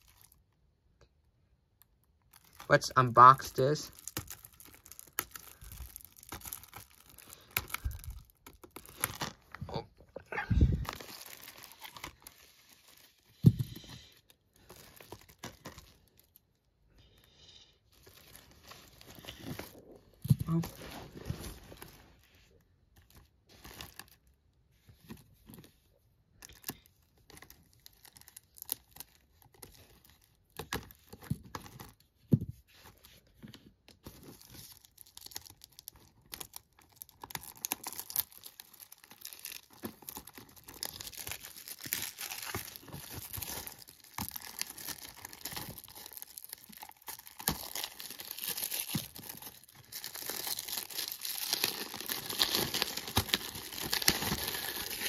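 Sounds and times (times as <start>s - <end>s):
plastic shrink wrap crinkling: 0.0s - 0.6s, 1.8s - 9.8s, 10.5s - 17.2s, 17.8s - 55.0s.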